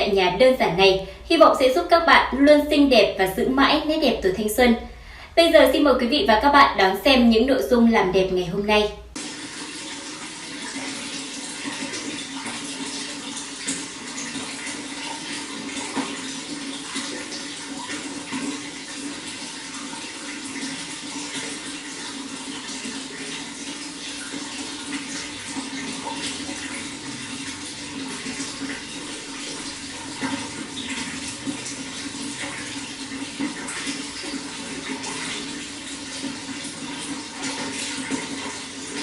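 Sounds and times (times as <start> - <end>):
running water with splashes: 7.1 - 39.0.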